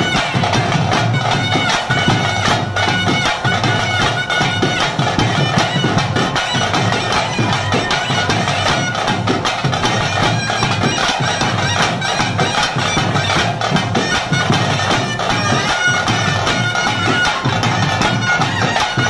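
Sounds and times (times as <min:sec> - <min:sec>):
double-reed pipe melody: 0:00.0 - 0:09.2, 0:09.8 - 0:19.0
steady drumming: 0:00.0 - 0:19.0.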